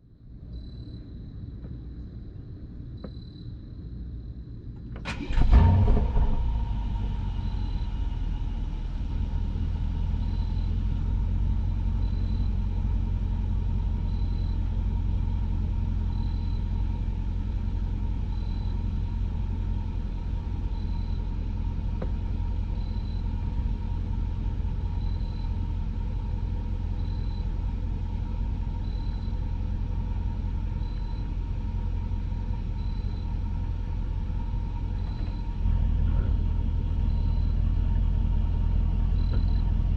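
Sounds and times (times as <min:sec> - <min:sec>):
car engine idling: 0:04.6 - 0:39.9.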